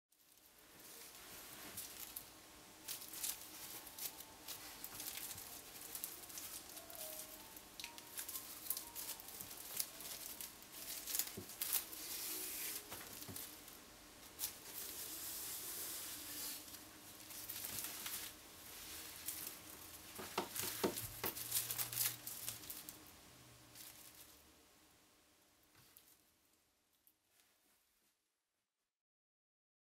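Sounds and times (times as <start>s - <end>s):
plastic yarn crinkling: 0.1s - 24.4s.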